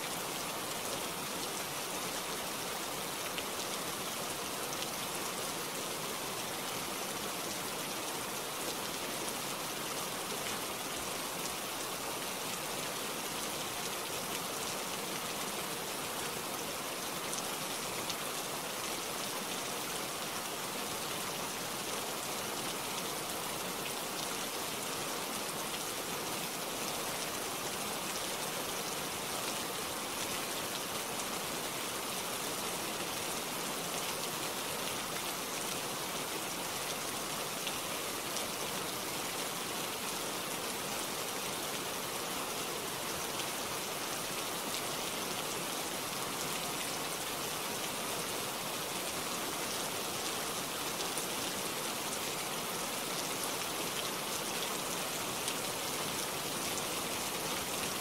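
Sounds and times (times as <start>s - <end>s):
rain falling through leaves: 0.0s - 58.0s.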